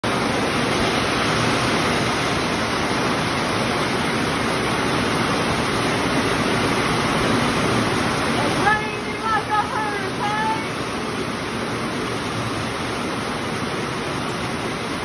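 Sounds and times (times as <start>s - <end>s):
heavy rain on metal roof: 0.0s - 15.0s.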